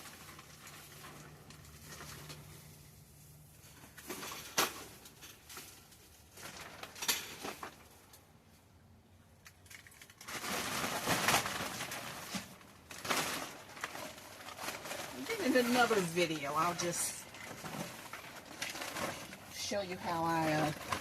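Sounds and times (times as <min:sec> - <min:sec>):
rustling and scraping of objects: 0:00.0 - 0:21.0.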